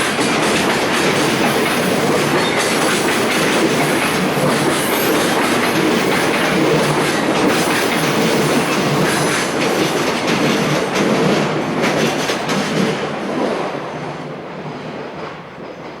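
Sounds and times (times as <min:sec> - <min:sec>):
freight train wheels clicking: 0:00.0 - 0:16.0.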